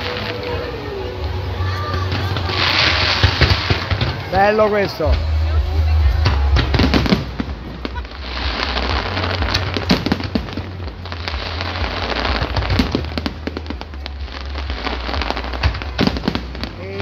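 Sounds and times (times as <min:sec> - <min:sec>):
fireworks crackling and banging: 0:00.0 - 0:17.0
low rumble: 0:00.0 - 0:17.0.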